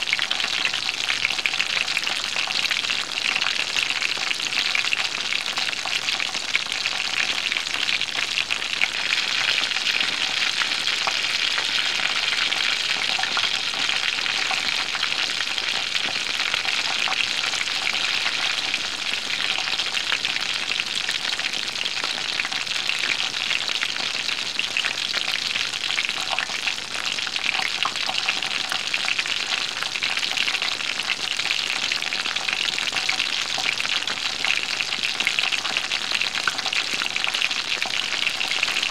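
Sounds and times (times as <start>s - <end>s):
food sizzling in a hot pan: 0.0s - 38.9s.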